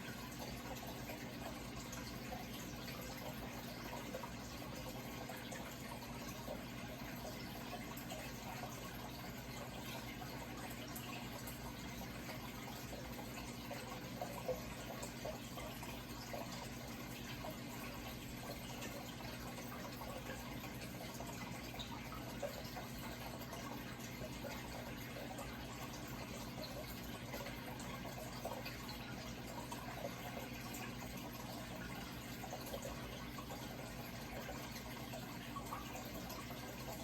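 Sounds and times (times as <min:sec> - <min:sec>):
running water trickling: 0:00.0 - 0:37.0.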